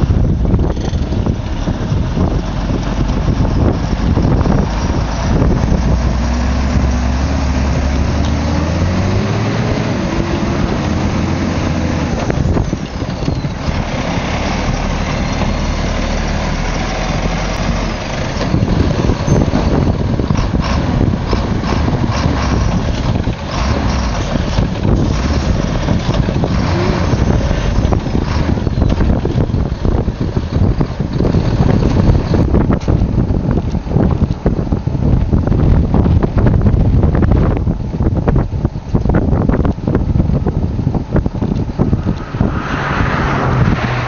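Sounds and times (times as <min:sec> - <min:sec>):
truck diesel engine under load: 0:00.0 - 0:44.0.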